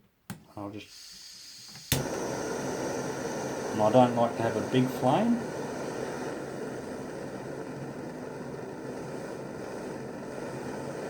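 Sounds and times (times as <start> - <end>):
butane torch hissing: 0.5 - 11.0.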